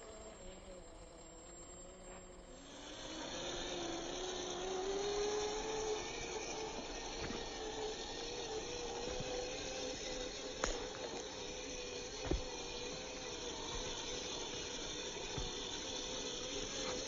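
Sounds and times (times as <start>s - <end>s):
toy car motor whining: 0.0s - 17.0s.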